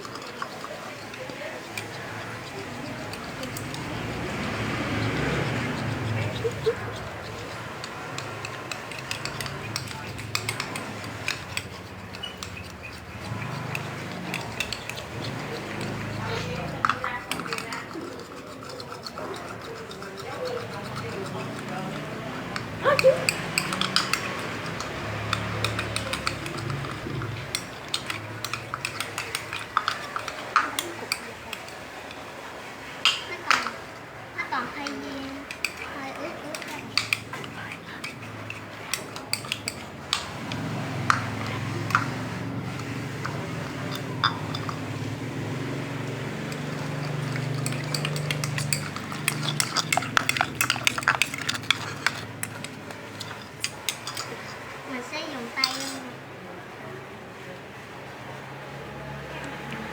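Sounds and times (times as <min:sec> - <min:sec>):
utensil scraping bowl: 0:00.0 - 0:56.2.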